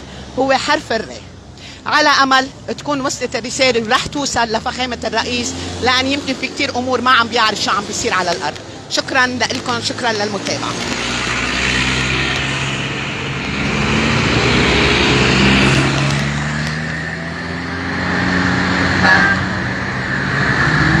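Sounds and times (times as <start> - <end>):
vehicles driving past: 0.0 - 21.0.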